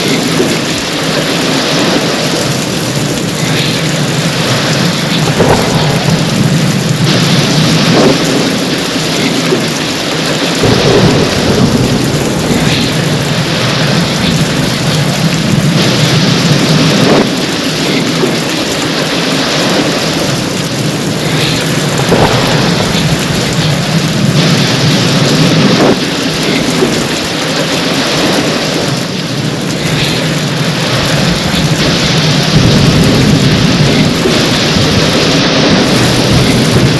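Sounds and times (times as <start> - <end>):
heavy rain: 0.0 - 36.9
thunder rumbling: 0.0 - 36.9.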